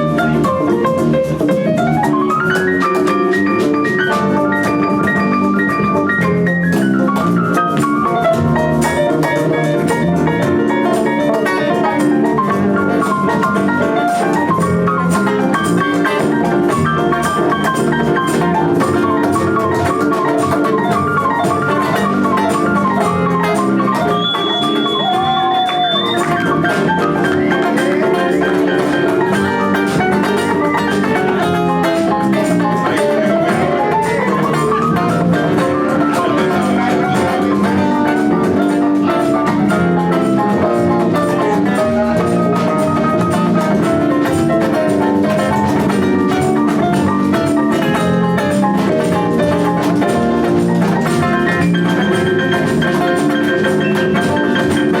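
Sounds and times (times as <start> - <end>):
drum kit steady beat: 0.0 - 55.0
melodic instrumental lines: 0.0 - 55.0.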